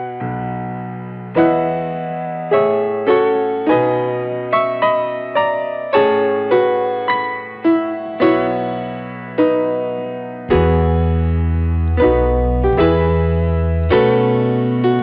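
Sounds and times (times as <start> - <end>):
keyboard playing notes and chords: 0.0 - 15.0.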